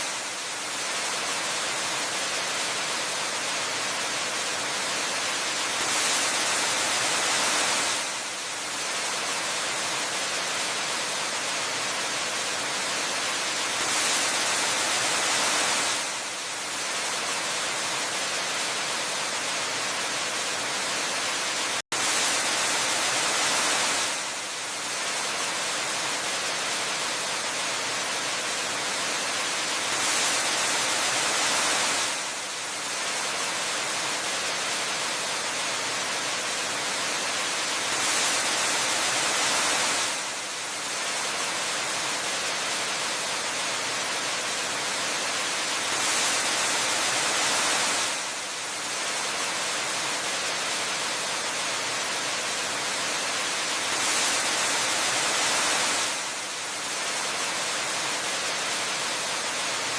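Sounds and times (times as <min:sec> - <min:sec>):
waterfall hiss: 0:00.0 - 0:59.9.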